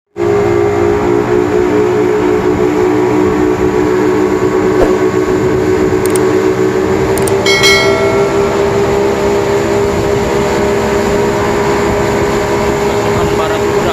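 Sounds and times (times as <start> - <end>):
boat engine drone: 0.1 - 13.9.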